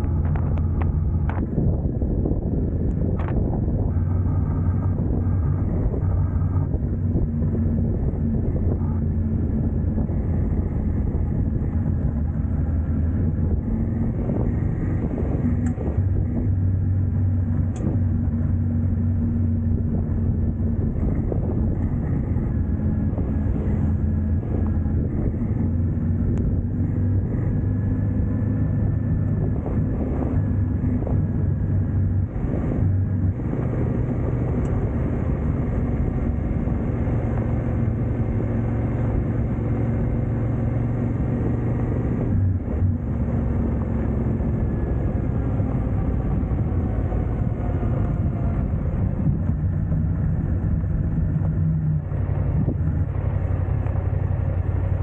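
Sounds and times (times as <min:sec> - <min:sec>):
motorcycle engine cruising: 0:00.0 - 0:55.0
wind noise: 0:00.0 - 0:55.0.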